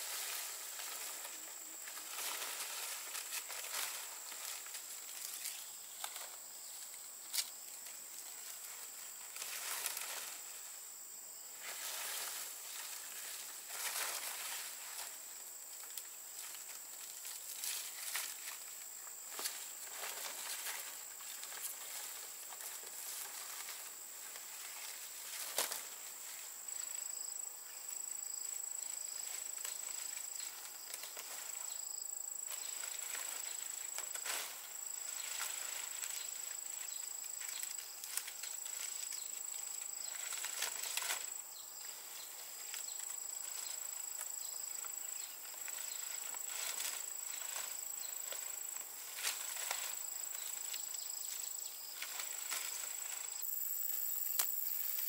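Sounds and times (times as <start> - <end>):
insects trilling: 0.0 - 55.0
palm leaves rustling and crackling: 0.0 - 55.0.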